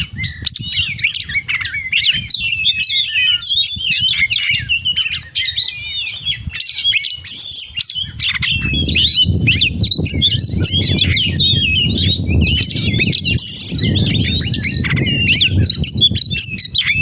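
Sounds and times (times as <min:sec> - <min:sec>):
songbird singing varied whistles: 0:00.0 - 0:17.0.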